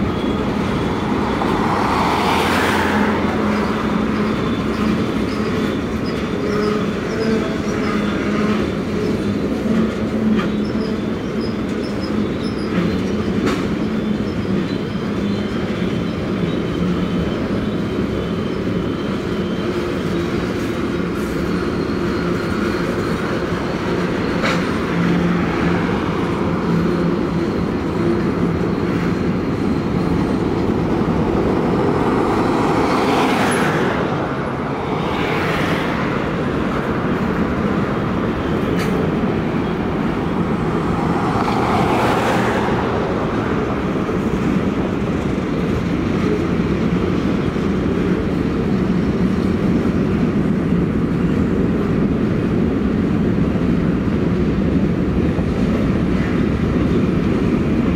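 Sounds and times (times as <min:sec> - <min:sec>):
freight train rolling past: 0:00.0 - 0:57.9.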